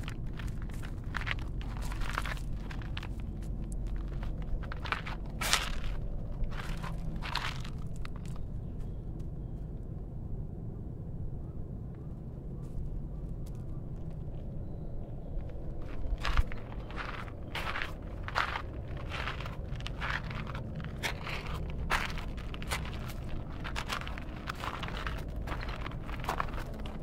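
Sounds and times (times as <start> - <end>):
footsteps crunching on dry ground: 0.0 - 9.0, 14.3 - 27.0
steady low rumble: 0.0 - 27.0.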